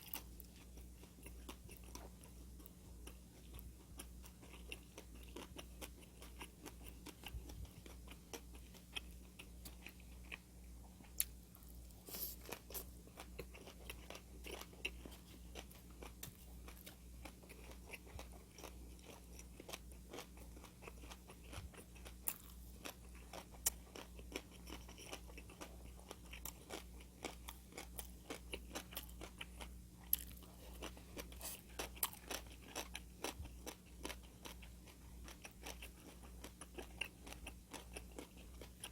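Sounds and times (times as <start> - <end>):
faint low hum: 0.0 - 38.9
person chewing and crunching food: 0.0 - 38.9.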